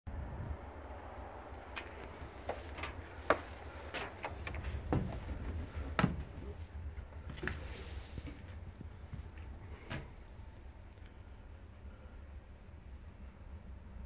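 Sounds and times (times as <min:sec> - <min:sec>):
steady low rumble: 0:00.1 - 0:14.0.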